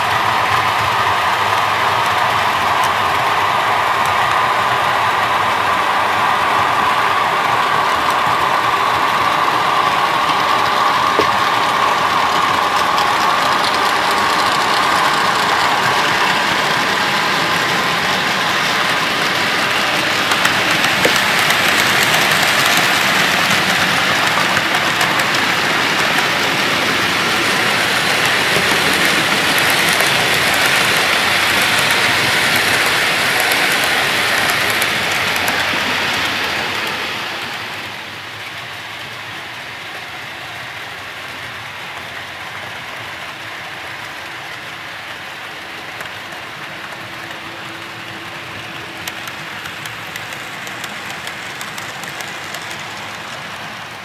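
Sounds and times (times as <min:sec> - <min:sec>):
model train running on track: 0:00.0 - 0:54.0.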